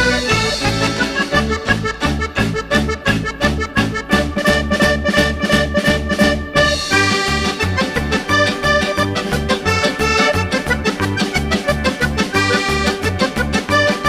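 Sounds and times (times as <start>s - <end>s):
plucked strings: 0.0s - 14.0s
steady bass beat: 0.0s - 14.0s
upbeat accordion music: 0.0s - 14.0s.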